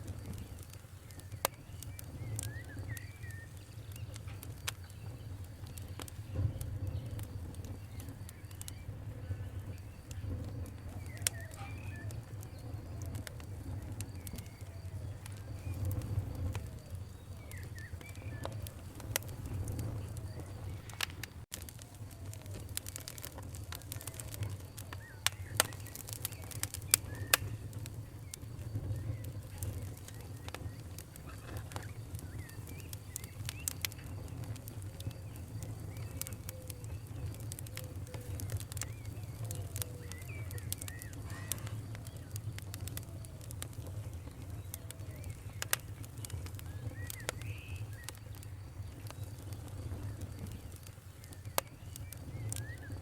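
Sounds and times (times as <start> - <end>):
campfire crackling and popping: 0.0 - 53.0
birds chirping: 0.1 - 53.0.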